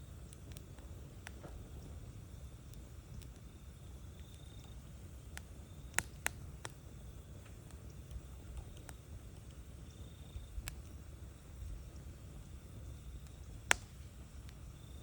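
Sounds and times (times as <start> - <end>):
campfire crackling: 0.0 - 15.0
low steady rumble: 0.0 - 15.0.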